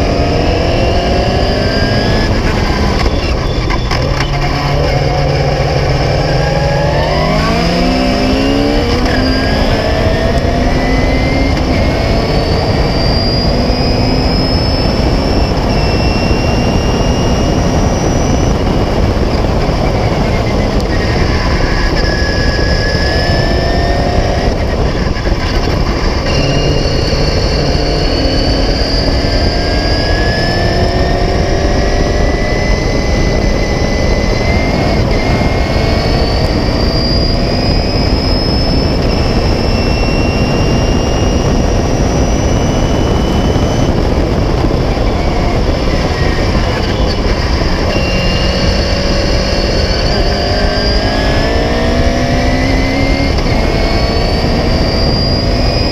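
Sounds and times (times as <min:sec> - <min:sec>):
racing car engine revving: 0:00.0 - 0:55.9
wind and road noise: 0:00.0 - 0:55.9.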